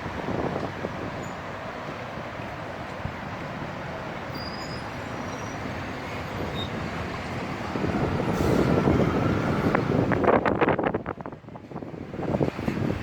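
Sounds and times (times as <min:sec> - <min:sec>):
stormy wind gusting: 0:00.0 - 0:13.0.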